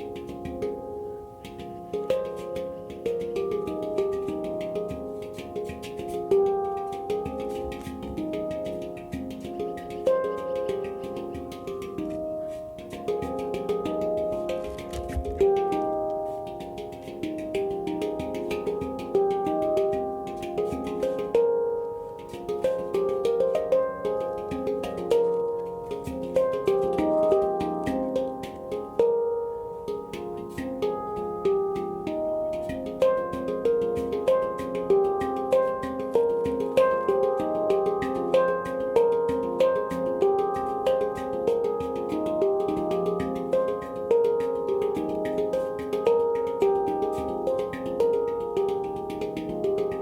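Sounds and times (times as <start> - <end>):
handpan notes struck by hand: 0.0 - 50.0.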